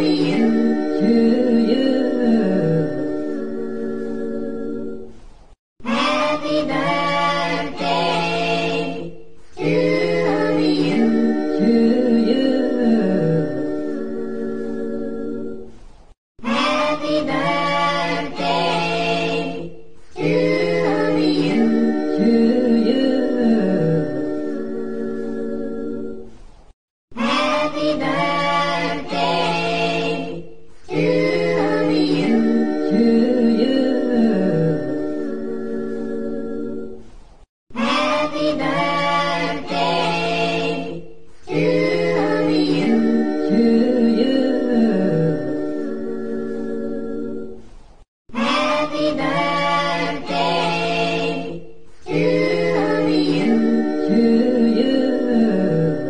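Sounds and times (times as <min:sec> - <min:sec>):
unaccompanied voices singing: 0:00.0 - 0:05.2, 0:05.8 - 0:15.8, 0:16.4 - 0:26.5, 0:27.1 - 0:37.1, 0:37.7 - 0:56.0.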